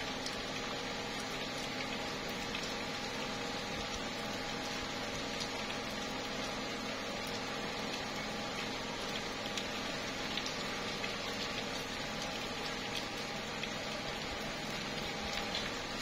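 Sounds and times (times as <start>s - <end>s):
rain on leaves: 0.0s - 16.0s
raindrops ticking: 0.0s - 16.0s.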